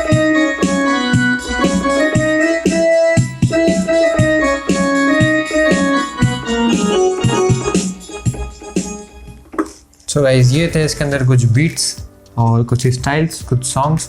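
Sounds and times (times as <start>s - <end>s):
steady drum beat: 0.0s - 9.8s, 10.4s - 12.2s
keyboard organ and piano melody: 0.0s - 14.0s.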